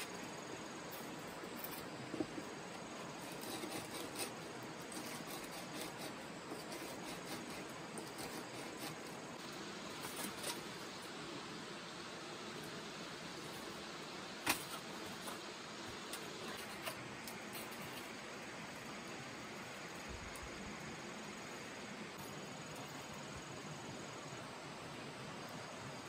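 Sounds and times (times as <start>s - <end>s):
outdoor hiss: 0.0s - 26.0s.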